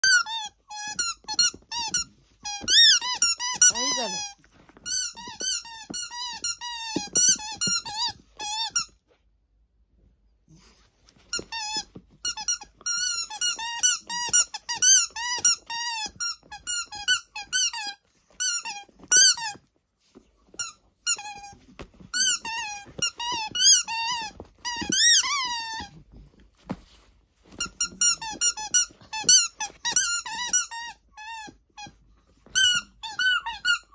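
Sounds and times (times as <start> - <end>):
squeaky dog toy squeaking: 0.0 - 9.0, 11.3 - 19.7, 20.5 - 26.0, 27.5 - 33.9.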